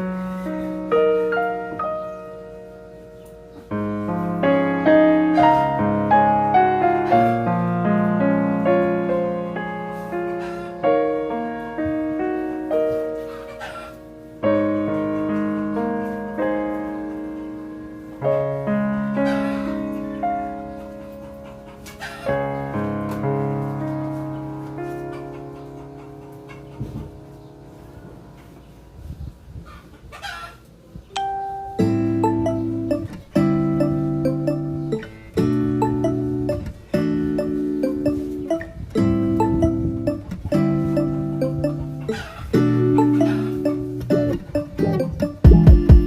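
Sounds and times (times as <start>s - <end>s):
piano music: 0.0s - 28.8s, 31.1s - 46.0s.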